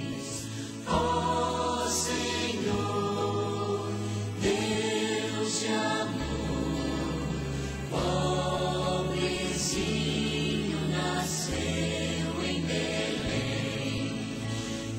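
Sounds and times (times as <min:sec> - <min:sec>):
choir singing held chords: 0:00.0 - 0:14.9.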